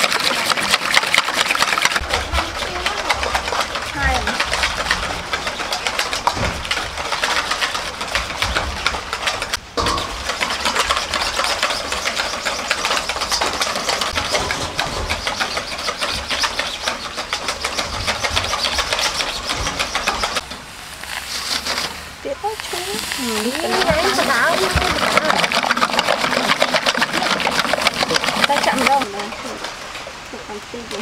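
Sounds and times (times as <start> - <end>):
whisk beating eggs in metal bowl: 0.0 - 20.5, 22.7 - 29.4.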